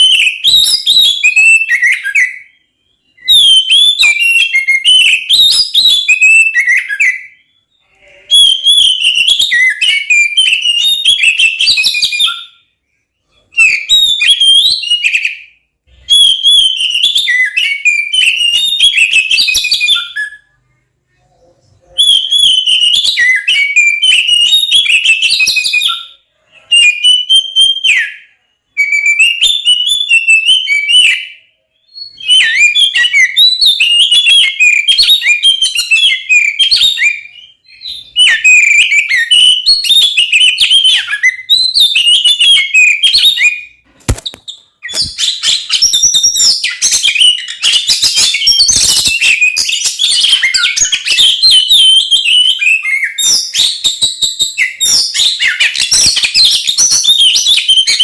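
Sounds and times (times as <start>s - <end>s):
bird singing whistled phrases: 0.0s - 58.0s.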